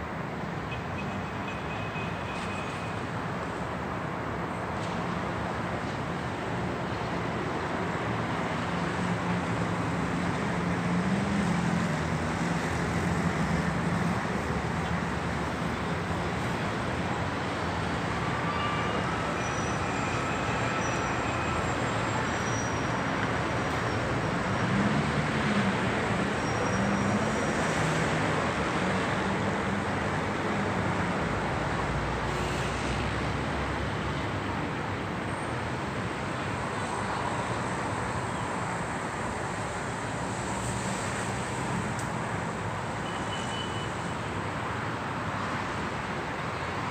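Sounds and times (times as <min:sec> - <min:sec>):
passing traffic noise: 0:00.0 - 0:46.9.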